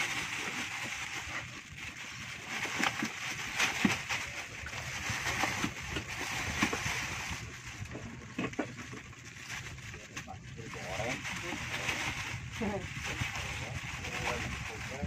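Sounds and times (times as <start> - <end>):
net and plastic bag rustling: 0.0 - 15.0.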